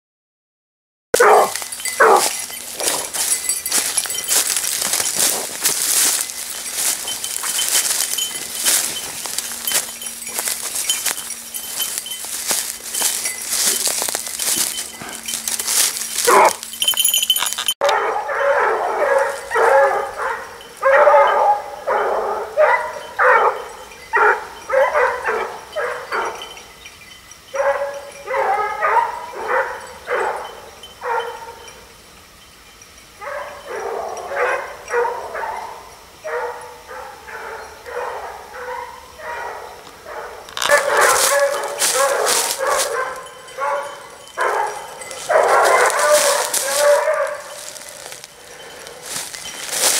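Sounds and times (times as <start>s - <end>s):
rustling through undergrowth: 1.2s - 17.9s, 18.6s - 31.7s, 37.5s - 49.9s
hounds baying: 1.2s - 32.2s, 33.1s - 49.9s.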